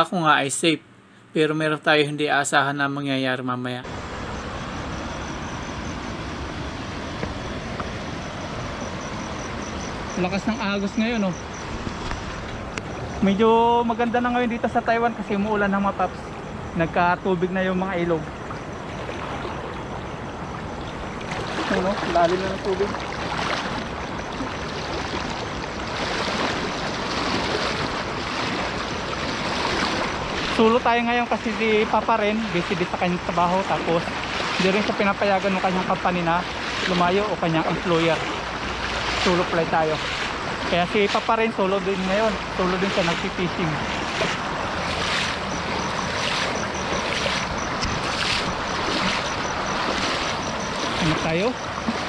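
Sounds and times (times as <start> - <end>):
river water rushing: 3.8 - 13.2, 18.2 - 52.0.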